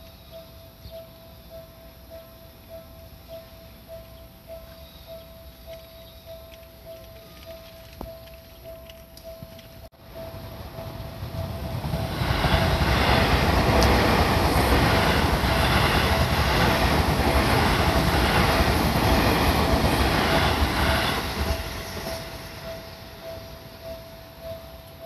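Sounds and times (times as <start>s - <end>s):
crossing warning bell dinging: 0.0s - 25.0s
electric train passing: 0.0s - 25.0s.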